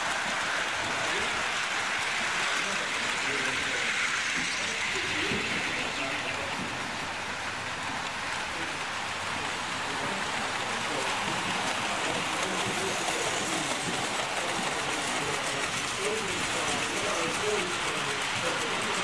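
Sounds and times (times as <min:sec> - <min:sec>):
model train wheels on rails: 0:00.0 - 0:19.0.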